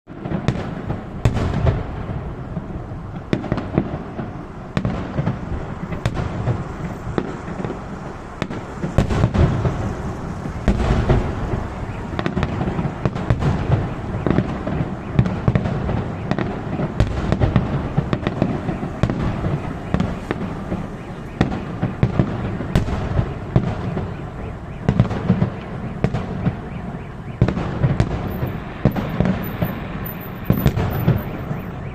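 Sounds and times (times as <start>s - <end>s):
fireworks bangs and crackling: 0.1s - 31.9s.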